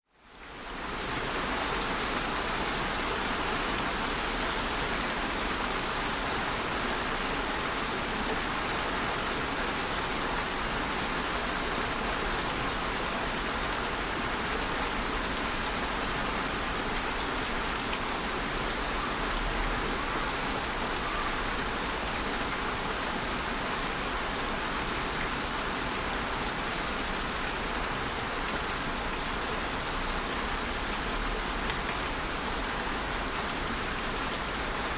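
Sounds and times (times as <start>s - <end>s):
steady rain patter: 0.0s - 34.9s.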